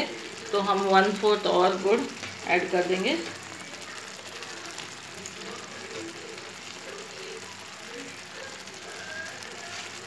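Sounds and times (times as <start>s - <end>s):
syrup bubbling and sizzling: 0.0s - 10.0s.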